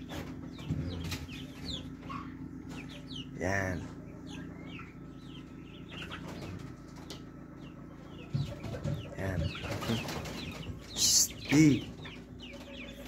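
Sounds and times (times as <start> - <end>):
chickens clucking: 0.0 - 13.0
steady low hum: 0.0 - 13.0.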